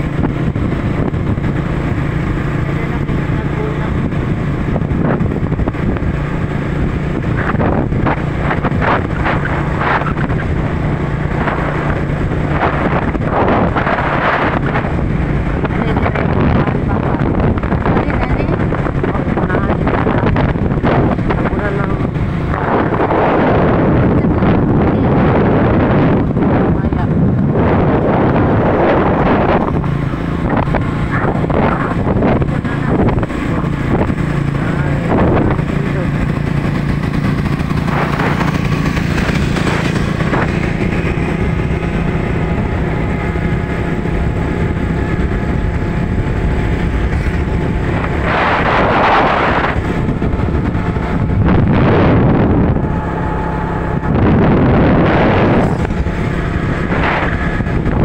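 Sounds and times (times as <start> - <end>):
motorcycle engine running: 0.0 - 58.0
wind buffeting microphone: 0.0 - 58.0.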